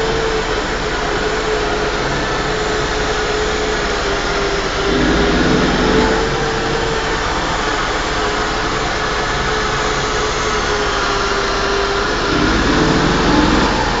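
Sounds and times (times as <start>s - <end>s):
machine motor whine with hiss: 0.0s - 14.0s.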